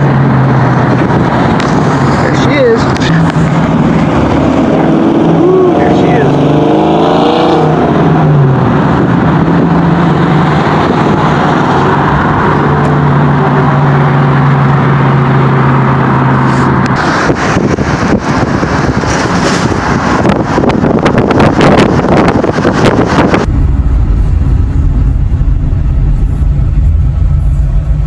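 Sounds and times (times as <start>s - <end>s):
engine drone: 0.0s - 28.0s
passing traffic: 0.0s - 28.0s
road and wind noise: 0.0s - 28.0s
wind buffeting microphone: 0.1s - 13.2s, 16.7s - 28.0s.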